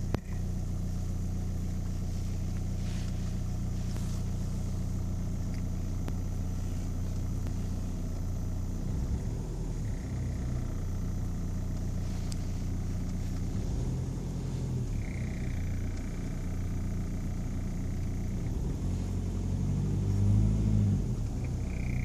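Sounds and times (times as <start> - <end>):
diesel engine ticking: 0.0 - 22.0.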